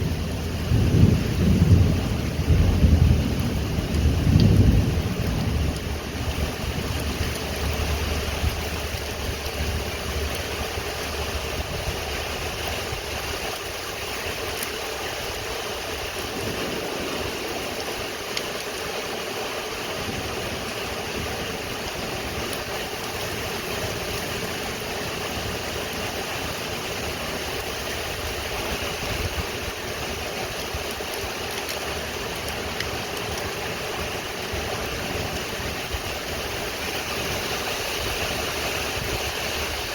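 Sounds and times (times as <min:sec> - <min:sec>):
thunder rumbling: 0:00.0 - 0:19.2, 0:19.9 - 0:39.9
steady rain falling: 0:00.0 - 0:39.9.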